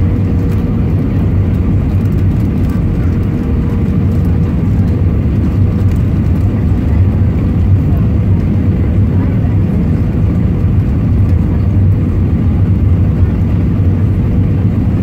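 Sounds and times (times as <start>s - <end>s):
low rumble of engines and airflow: 0.0s - 15.0s.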